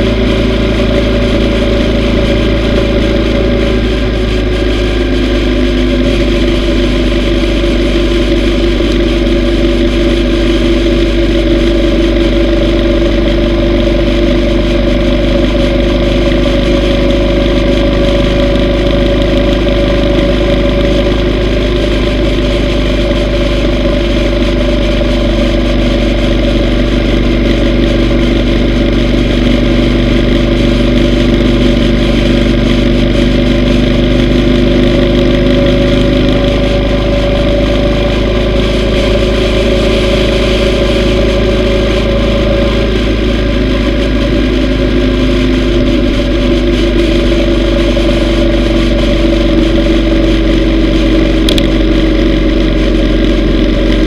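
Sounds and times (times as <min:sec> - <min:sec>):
motorcycle engine running steadily: 0:00.0 - 0:54.0.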